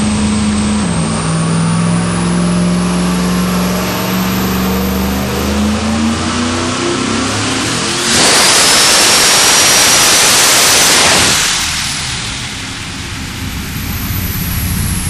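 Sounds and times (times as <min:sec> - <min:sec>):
drag car engine at full throttle: 0:00.0 - 0:15.0
high turbo whine: 0:00.0 - 0:15.0.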